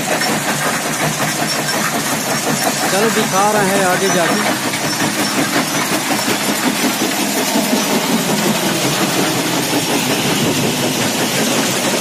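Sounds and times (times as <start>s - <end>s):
stone crusher crushing stone: 0.0s - 12.0s.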